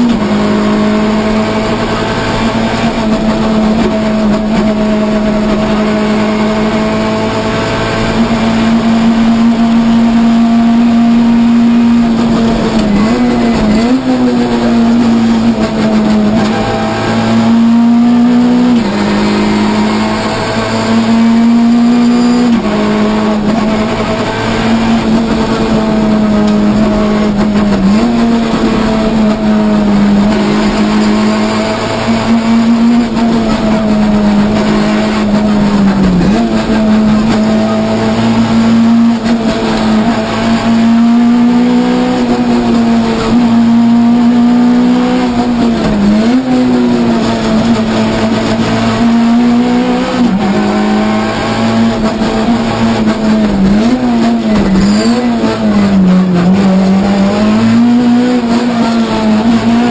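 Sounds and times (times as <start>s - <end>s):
rally car engine running hard: 0.0s - 59.9s.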